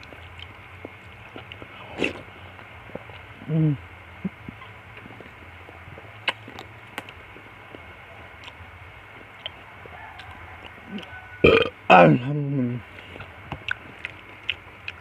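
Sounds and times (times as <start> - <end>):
person chewing: 0.0 - 11.7, 13.0 - 15.0.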